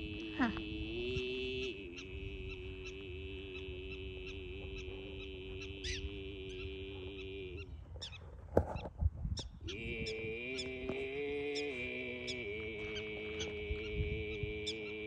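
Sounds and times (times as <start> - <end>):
throat singing drone: 0.0 - 8.2, 9.6 - 15.0.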